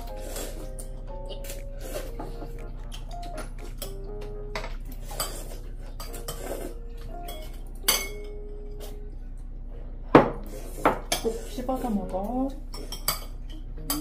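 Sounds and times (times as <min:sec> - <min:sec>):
utensils clinking against dishes: 0:00.0 - 0:09.0, 0:10.3 - 0:14.0.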